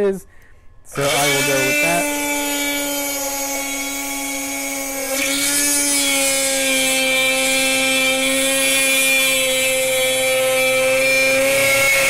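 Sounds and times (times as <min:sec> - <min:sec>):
drill bit grinding through plastic: 0:00.9 - 0:12.0
rotary tool whining: 0:00.9 - 0:12.0.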